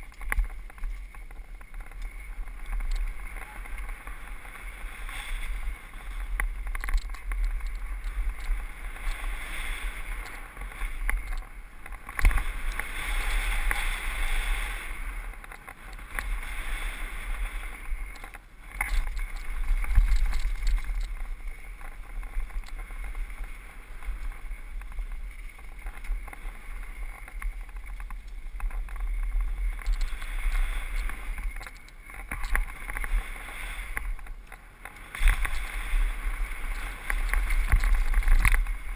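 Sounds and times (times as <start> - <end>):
bike tyres rolling on gravel: 0.0 - 38.9
wind buffeting microphone: 0.0 - 38.9.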